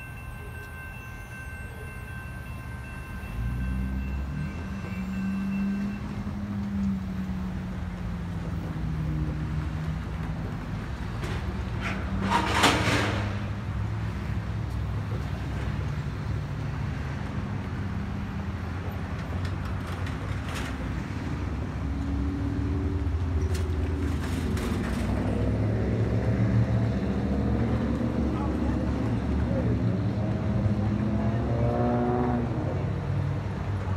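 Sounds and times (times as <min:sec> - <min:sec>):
cars and trucks passing: 0:00.0 - 0:33.9.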